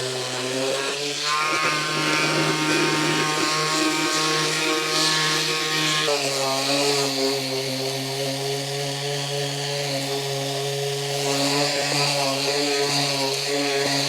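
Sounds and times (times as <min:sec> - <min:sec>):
power tool motor humming: 0:00.0 - 0:14.0.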